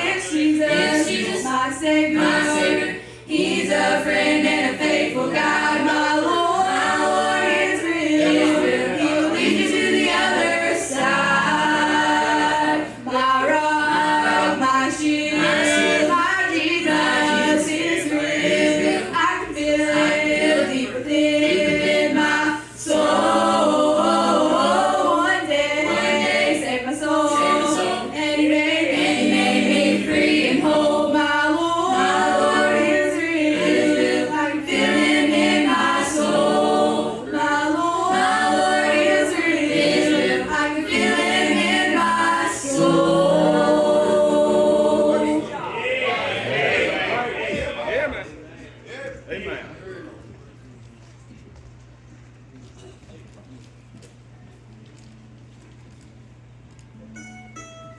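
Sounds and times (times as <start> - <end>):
group singing gospel in harmony: 0.0 - 48.3.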